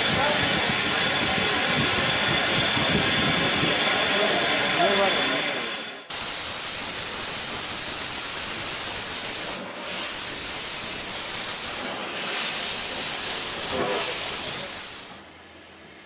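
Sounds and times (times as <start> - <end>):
steam locomotive venting steam: 0.0 - 15.3.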